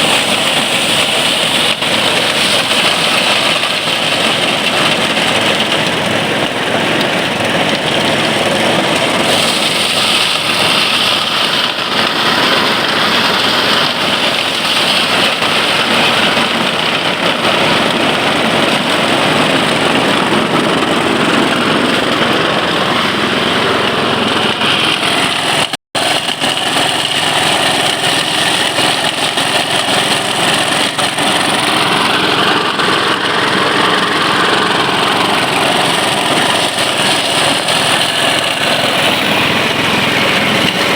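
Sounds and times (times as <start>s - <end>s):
threshing machine running: 0.0s - 40.9s.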